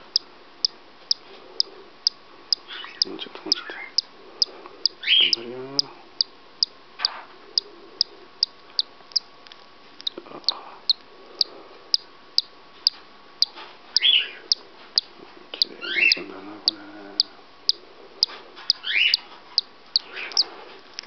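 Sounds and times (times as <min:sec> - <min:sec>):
chick peeping: 0:00.0 - 0:09.3, 0:10.0 - 0:20.7.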